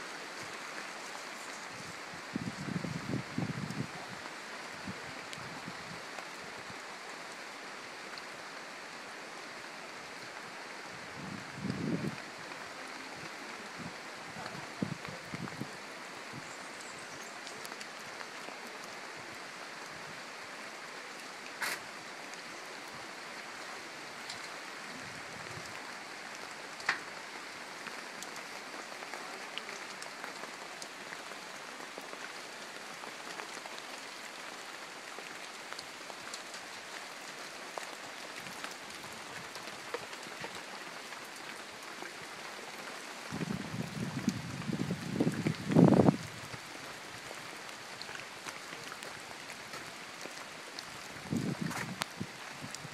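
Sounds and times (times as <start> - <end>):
rainforest ambience hiss: 0.0 - 52.9.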